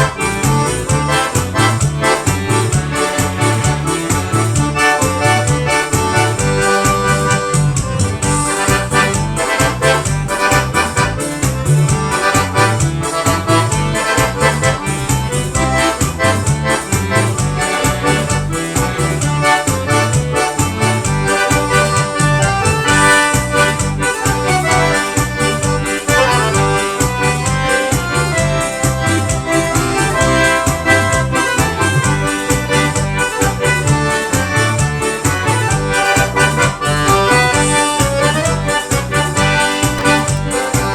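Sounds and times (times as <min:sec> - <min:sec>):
accordion playing chords and melody: 0:00.0 - 0:40.9
bass and drum beat: 0:00.0 - 0:40.9.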